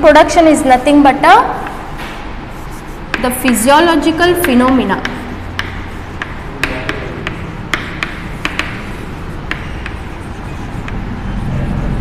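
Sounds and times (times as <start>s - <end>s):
chalk tapping on chalkboard: 0.7s - 12.0s.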